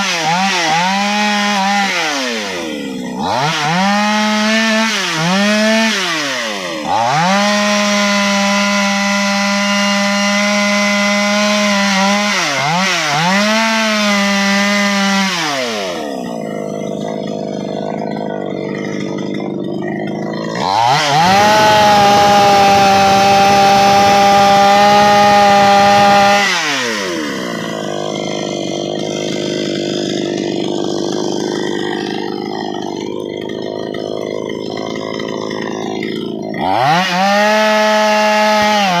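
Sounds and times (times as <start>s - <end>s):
chainsaw engine revving: 0.0s - 39.0s.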